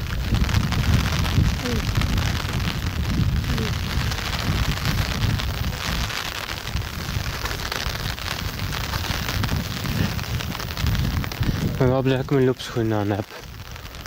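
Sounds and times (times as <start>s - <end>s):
rain falling: 0.0s - 14.0s
wind gusting on microphone: 0.0s - 14.0s.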